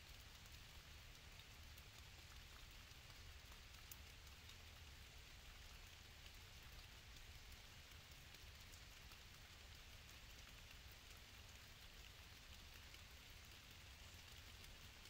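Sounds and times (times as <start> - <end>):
faint steady hiss: 0.0 - 15.0
faint ticks: 0.0 - 15.0.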